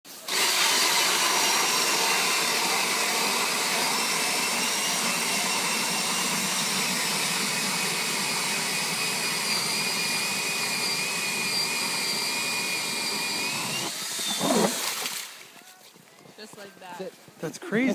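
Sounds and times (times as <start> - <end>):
auger blades grinding ice: 0.1 - 15.6
cordless drill motor whine: 0.2 - 15.2.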